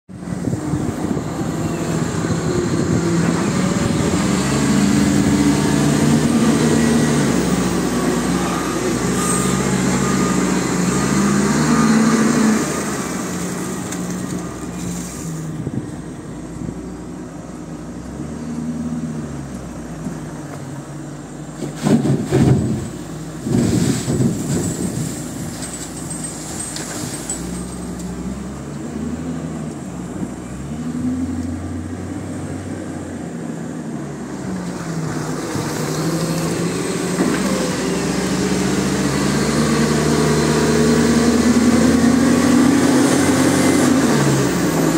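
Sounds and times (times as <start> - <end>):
diesel engine working hard: 0.1 - 44.9.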